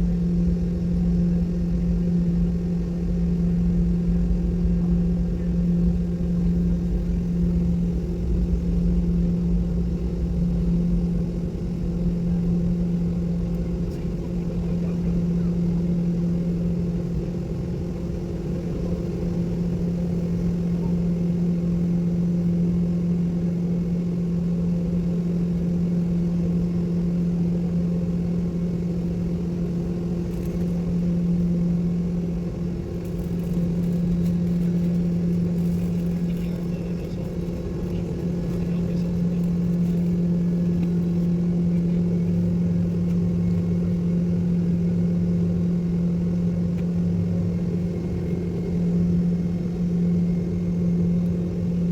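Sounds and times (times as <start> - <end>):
airliner engines droning: 0.0 - 51.9.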